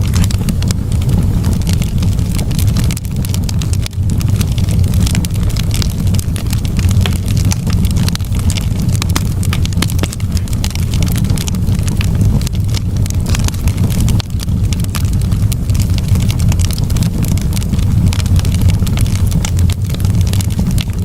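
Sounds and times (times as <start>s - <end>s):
campfire burning: 0.0s - 21.0s
wood crackling and snapping: 0.0s - 21.0s.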